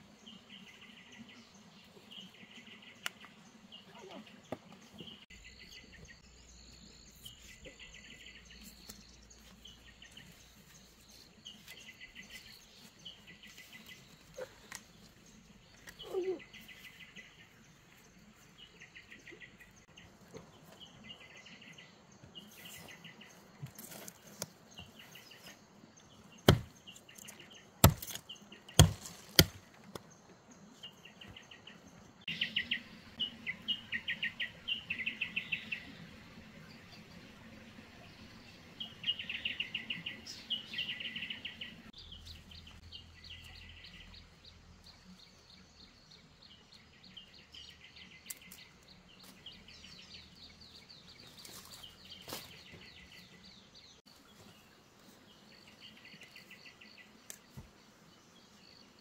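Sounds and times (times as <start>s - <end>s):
quiet rural background: 0.0s - 59.0s.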